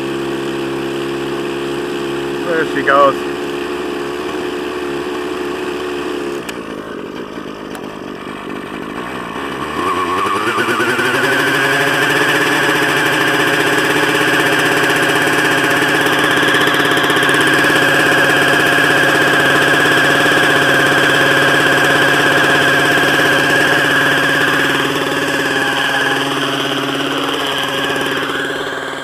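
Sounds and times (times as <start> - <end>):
model helicopter engine whining: 0.0 - 29.0.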